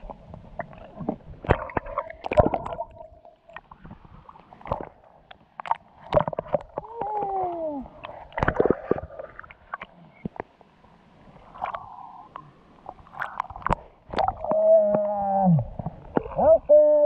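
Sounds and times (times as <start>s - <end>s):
water sloshing and gurgling: 0.0s - 16.7s.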